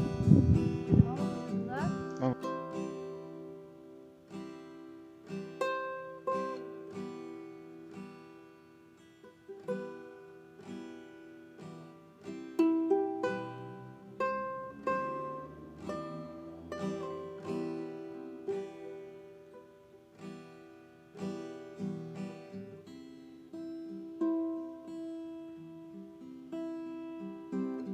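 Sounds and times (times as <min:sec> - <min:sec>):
plucked acoustic string melody: 0:00.0 - 0:27.9.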